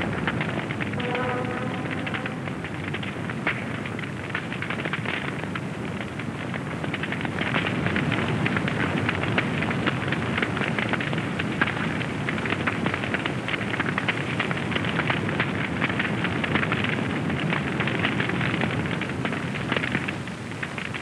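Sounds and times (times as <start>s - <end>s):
large fire crackling: 0.0s - 21.0s.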